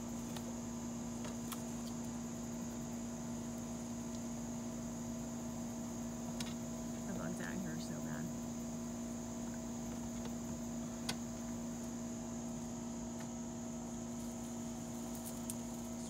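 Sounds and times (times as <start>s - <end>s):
crickets droning: 0.0s - 16.0s
steady low hum: 0.0s - 16.0s.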